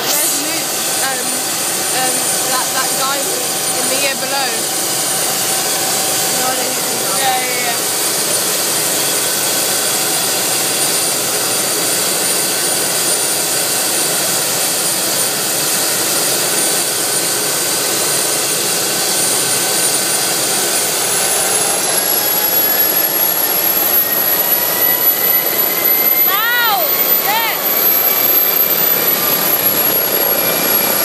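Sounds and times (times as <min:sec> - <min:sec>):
helicopter rushing noise: 0:00.0 - 0:31.0
helicopter turbine whine: 0:00.0 - 0:31.0.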